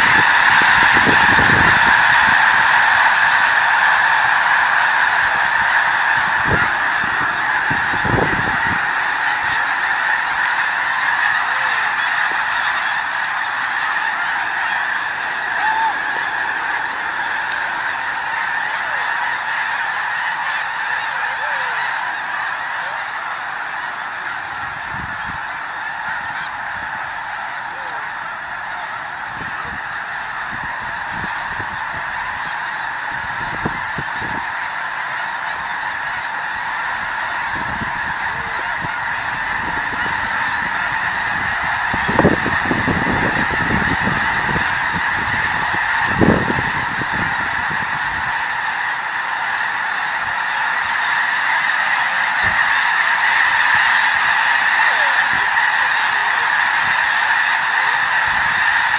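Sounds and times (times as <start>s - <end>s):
flock of geese honking: 0.0s - 58.9s.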